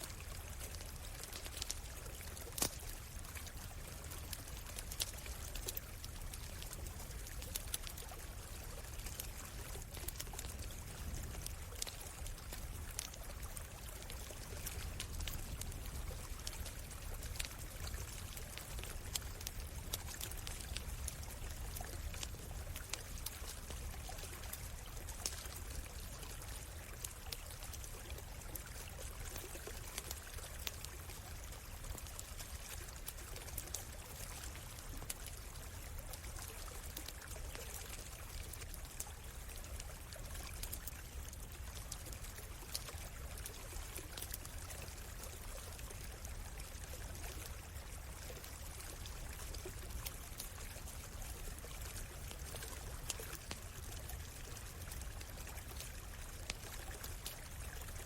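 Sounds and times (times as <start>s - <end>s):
campfire crackling: 0.0s - 58.0s
stream flowing: 0.0s - 58.0s.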